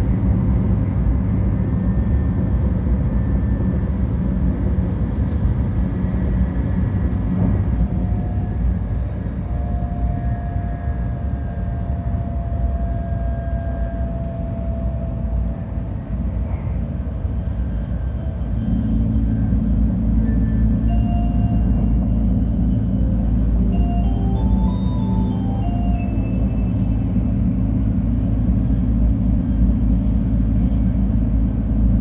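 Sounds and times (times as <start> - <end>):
faint steady whine: 0.0 - 32.0
train cabin rumble: 0.0 - 32.0.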